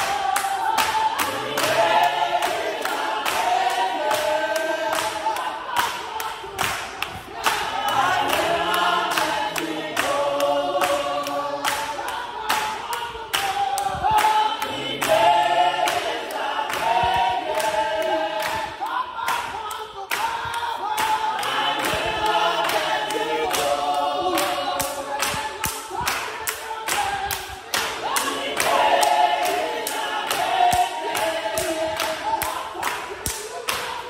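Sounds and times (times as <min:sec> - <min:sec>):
congregation singing: 0:00.0 - 0:34.0
rhythmic hand-clapping: 0:00.0 - 0:34.0.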